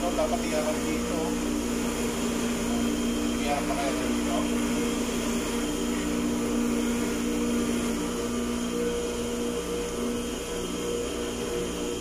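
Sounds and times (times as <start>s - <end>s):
water pump motor humming: 0.0s - 12.0s.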